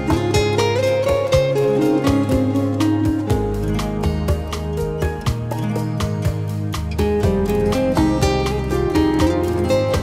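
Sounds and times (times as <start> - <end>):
held low bass: 0.0 - 10.0
plucked guitar-like notes: 0.0 - 10.0.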